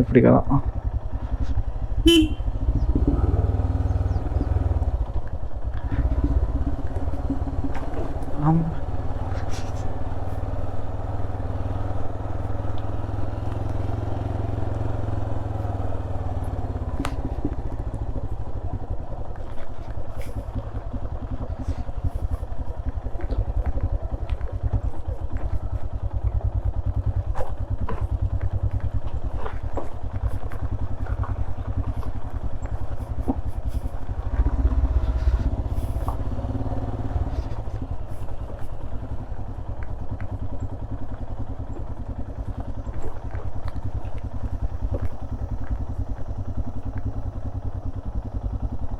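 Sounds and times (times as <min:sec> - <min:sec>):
motorcycle engine running: 0:00.0 - 0:48.9
motorcycle clicks and knocks over bumps: 0:00.6 - 0:48.9.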